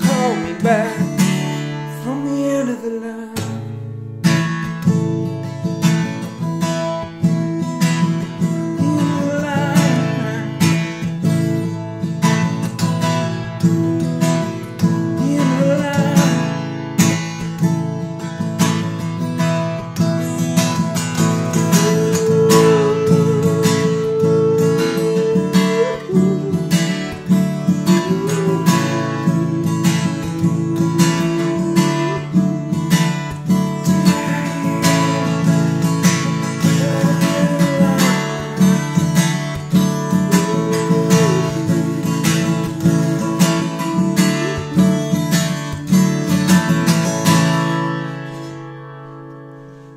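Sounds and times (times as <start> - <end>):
acoustic guitar strumming chords: 0.0 - 49.9.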